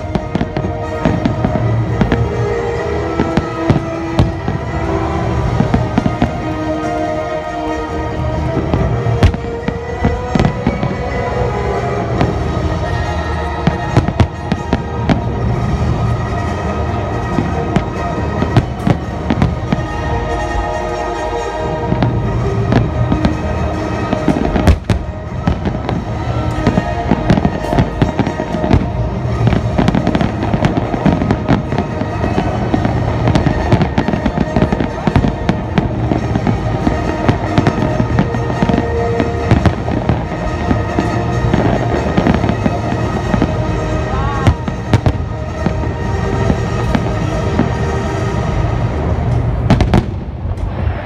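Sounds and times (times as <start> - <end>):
fireworks bursting: 0.0 - 51.0
music playing: 0.0 - 51.0.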